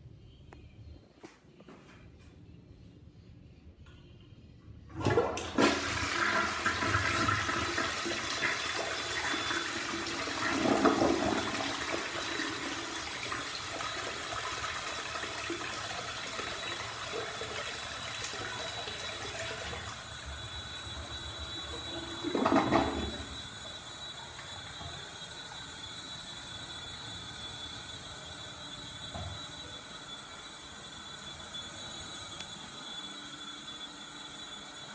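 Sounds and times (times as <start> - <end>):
toilet flushing: 4.9 - 34.9.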